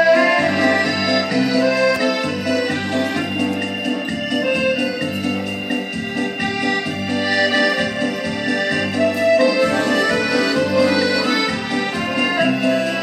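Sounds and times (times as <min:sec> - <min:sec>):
piano accordion playing a tune: 0:00.0 - 0:13.0.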